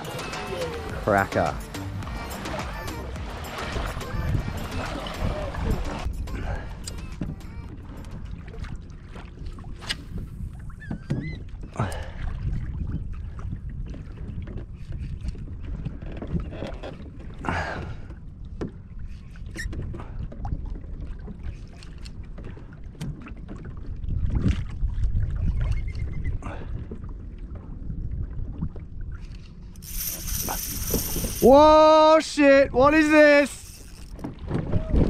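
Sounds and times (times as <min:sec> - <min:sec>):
water lapping against kayak hull: 0:00.0 - 0:35.0
wind rumbling on microphone: 0:03.2 - 0:35.0.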